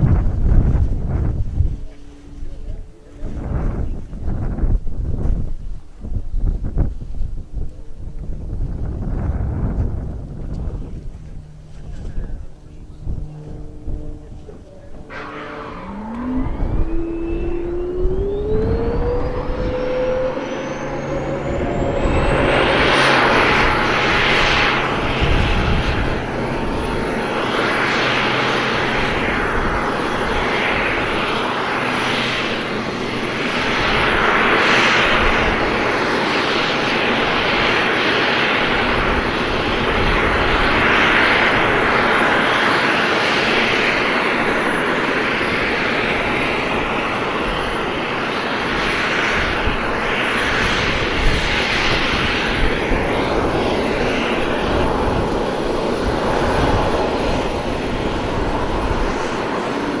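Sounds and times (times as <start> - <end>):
loud jet rush: 0.0 - 60.0
wind buffeting microphone: 0.0 - 60.0.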